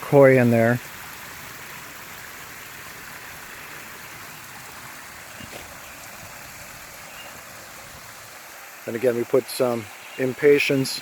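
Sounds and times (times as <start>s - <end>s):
waterfall splashing into pond: 0.0s - 11.0s.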